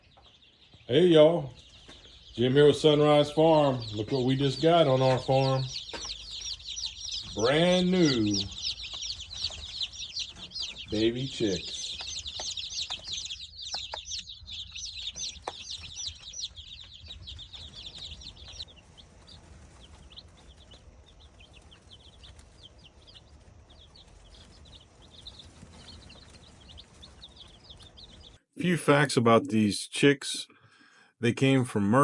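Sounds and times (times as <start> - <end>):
baby chicks peeping: 0.0 - 28.4.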